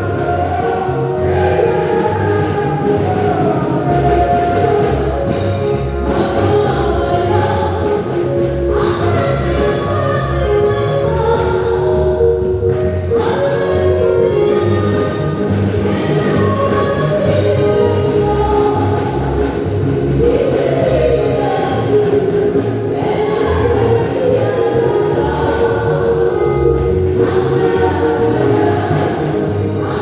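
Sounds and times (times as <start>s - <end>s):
choir singing gospel music: 0.0s - 30.0s
instrumental backing: 0.0s - 30.0s.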